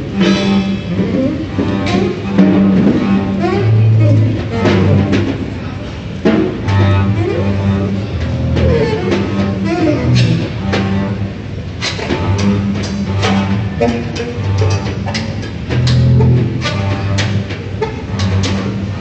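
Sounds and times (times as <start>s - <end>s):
saxophone lines: 0.0s - 5.4s, 6.6s - 19.0s
low double bass notes: 0.0s - 19.0s.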